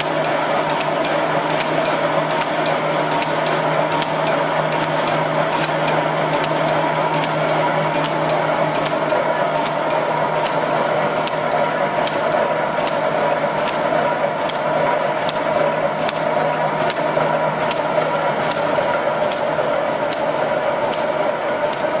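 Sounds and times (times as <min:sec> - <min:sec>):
steady mechanical hum: 0:00.0 - 0:22.0
welding machine clacking: 0:00.0 - 0:22.0.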